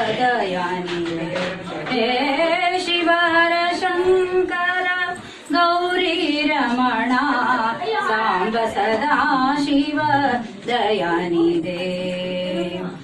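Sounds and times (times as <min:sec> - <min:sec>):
woman singing slow song: 0:00.0 - 0:13.0.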